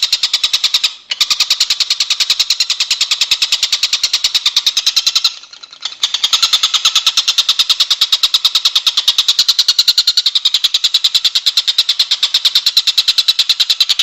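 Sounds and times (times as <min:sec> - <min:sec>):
songbird rattling trill: 0:00.0 - 0:14.0.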